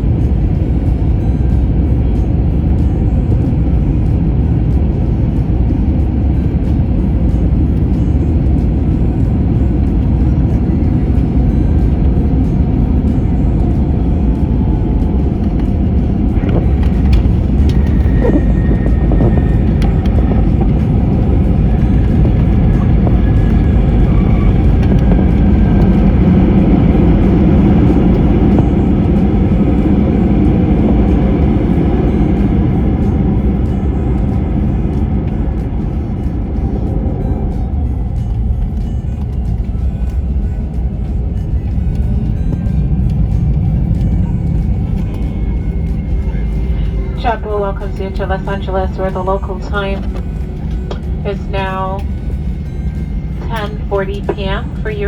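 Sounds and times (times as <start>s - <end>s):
jet cabin engine rumble: 0.0s - 55.0s.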